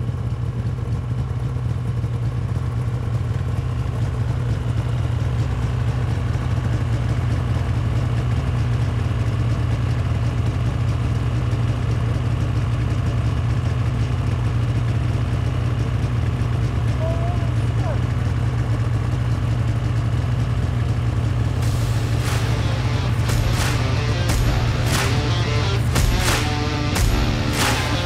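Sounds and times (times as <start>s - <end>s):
snowmobile engine idling: 0.0s - 28.0s.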